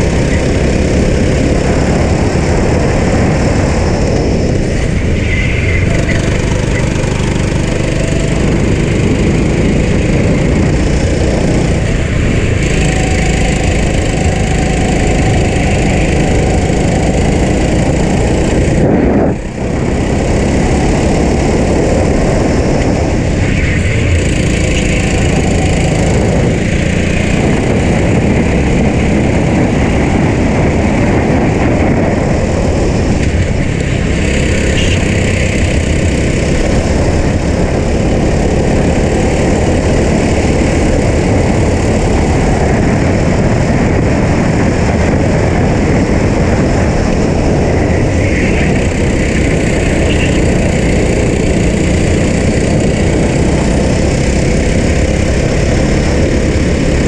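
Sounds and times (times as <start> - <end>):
kart engine running hard: 0.0 - 57.0
track noise: 0.0 - 57.0
wind noise: 0.0 - 57.0.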